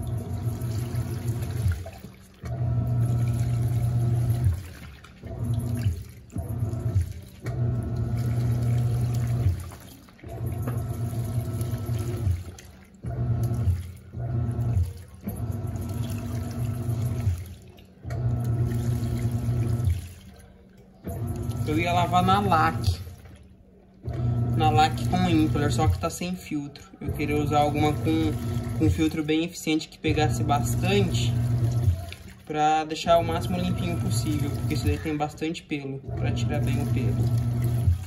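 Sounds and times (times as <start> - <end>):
washing machine motor humming: 0.0 - 38.0
water sloshing: 0.0 - 38.0.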